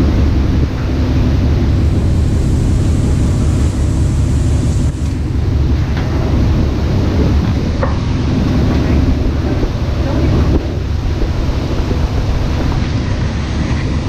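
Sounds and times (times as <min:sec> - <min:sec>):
boat engine drone: 0:00.0 - 0:14.0
deck machinery hum: 0:00.0 - 0:14.0.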